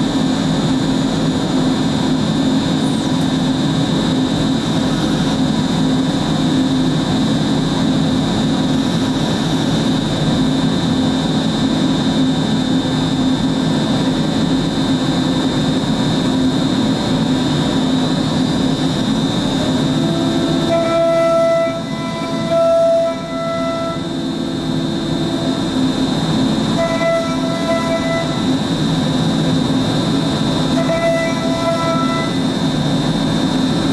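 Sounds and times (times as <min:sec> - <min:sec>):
cnc router mechanical drone: 0:00.0 - 0:33.9
high steady whine: 0:00.0 - 0:33.9.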